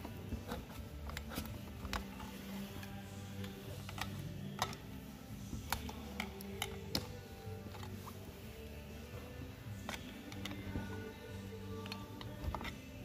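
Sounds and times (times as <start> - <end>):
screwdriver clicking on metal parts: 0.0 - 8.3, 9.8 - 13.0.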